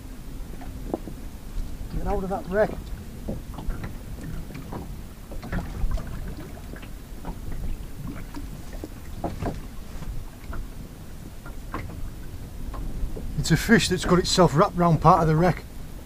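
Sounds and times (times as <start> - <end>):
water sloshing against boat hull: 0.0 - 16.0
wind buffeting microphone: 0.0 - 16.0.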